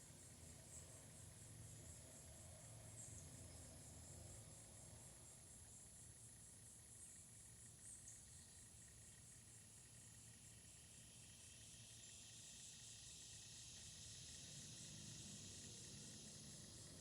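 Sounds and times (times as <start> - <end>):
faint crickets chirping: 0.0 - 17.0.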